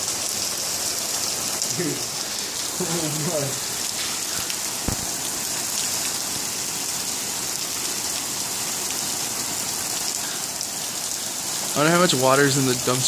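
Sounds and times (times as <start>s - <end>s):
heavy rain on pavement and cars: 0.0s - 13.0s.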